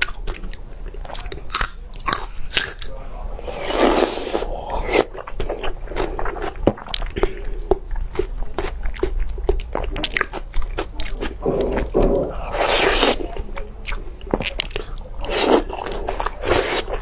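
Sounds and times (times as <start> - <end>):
person chewing: 0.0 - 17.0.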